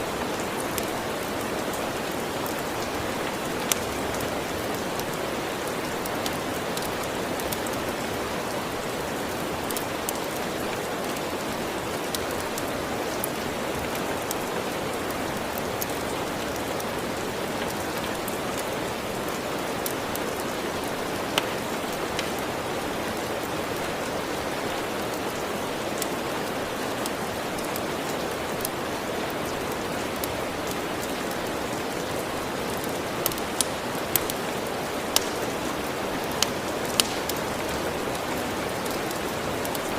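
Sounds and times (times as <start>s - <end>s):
wood fire popping and crackling: 0.0s - 39.9s.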